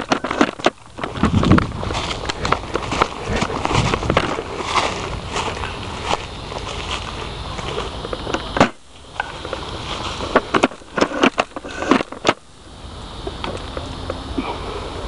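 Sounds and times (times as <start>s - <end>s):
camera handling rumble: 0.0s - 12.4s
brush rustling: 0.0s - 12.5s
wind: 0.0s - 15.0s.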